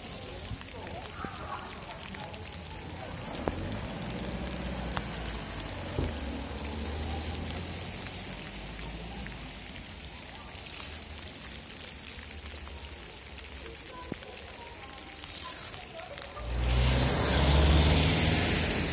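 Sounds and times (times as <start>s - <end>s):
tyres hissing on wet road: 0.0s - 18.9s.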